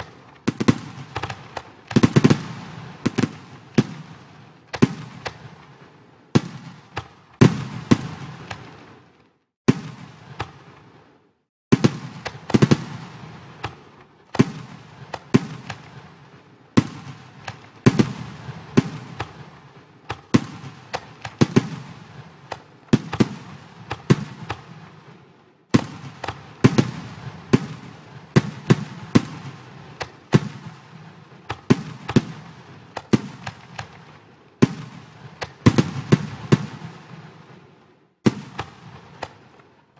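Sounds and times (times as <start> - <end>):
firework shells bursting with crackle: 0.0 - 39.9.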